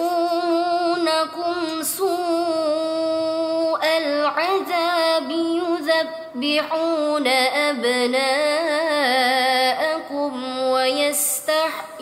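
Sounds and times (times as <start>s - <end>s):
woman chanting recitation: 0.0s - 12.0s.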